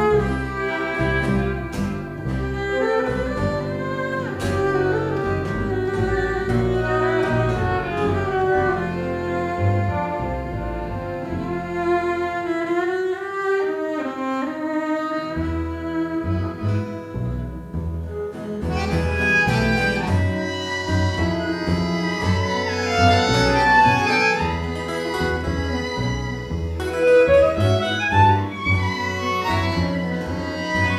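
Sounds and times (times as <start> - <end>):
violins playing fast melody: 0.0 - 13.7, 18.7 - 30.9
double bass: 0.0 - 30.9.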